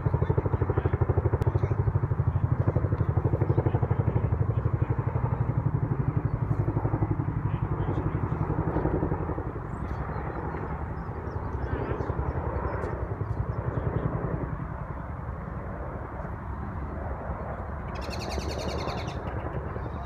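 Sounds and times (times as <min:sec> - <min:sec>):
helicopter rotors thudding: 0:00.0 - 0:20.0.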